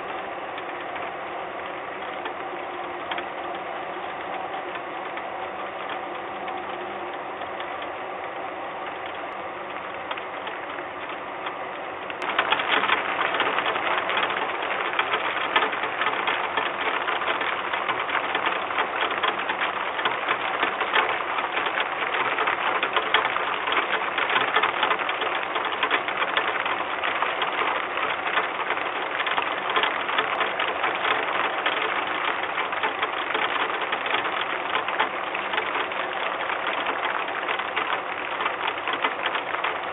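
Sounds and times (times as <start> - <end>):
rain pattering on wooden box: 0.0 - 7.9, 8.8 - 39.9.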